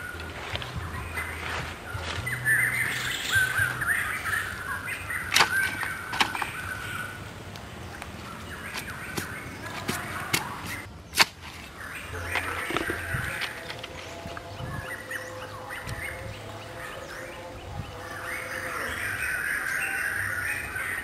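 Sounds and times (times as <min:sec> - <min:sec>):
bird chirping and warbling: 0:00.0 - 0:21.0.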